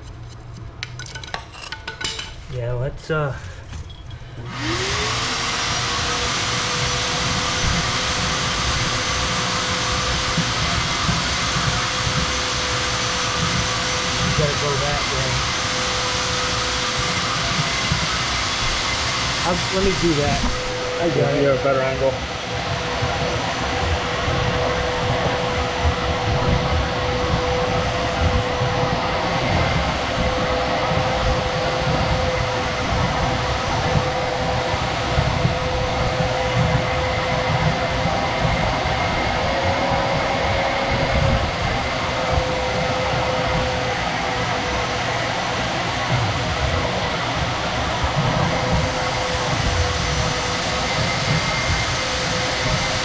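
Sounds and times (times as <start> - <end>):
loud rush of air: 3.2 - 53.0
shop vacuum motor whine: 3.4 - 53.0.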